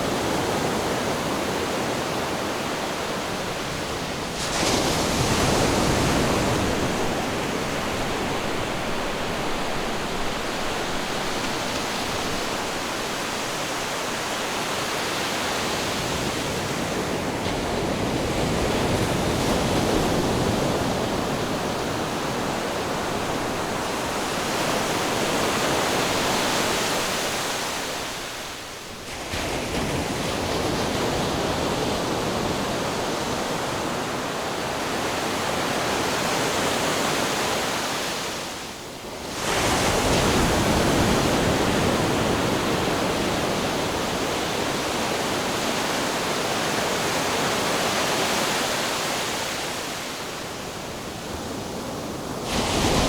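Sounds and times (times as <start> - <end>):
ocean waves surging onto shore: 0.0 - 53.0.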